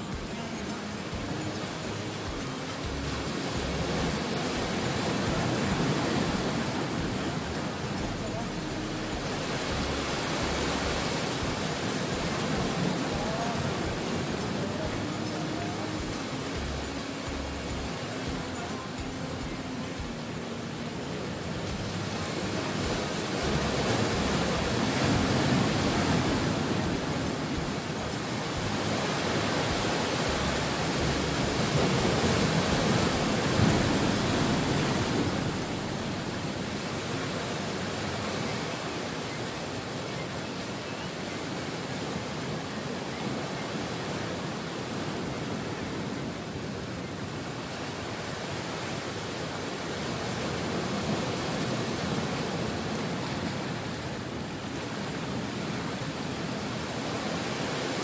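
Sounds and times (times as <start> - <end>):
sea waves rushing: 0.0 - 58.0.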